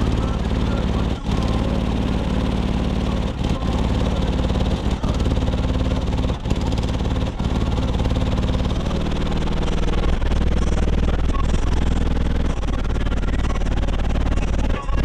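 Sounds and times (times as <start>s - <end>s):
loud bass music from subwoofers: 0.0s - 15.0s.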